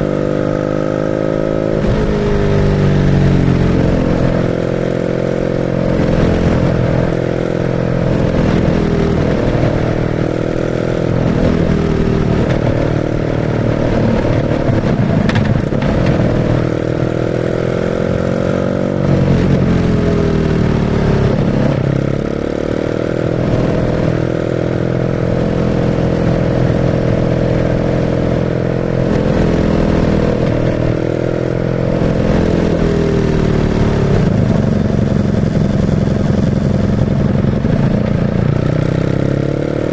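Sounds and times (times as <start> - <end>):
motorcycle engine revving while ridden: 0.0 - 39.9.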